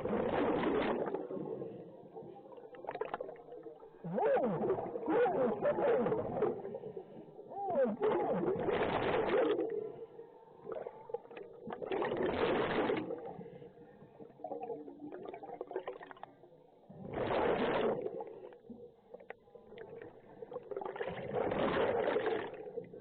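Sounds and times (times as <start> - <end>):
exhaled bubbles underwater: 0.0 - 23.0.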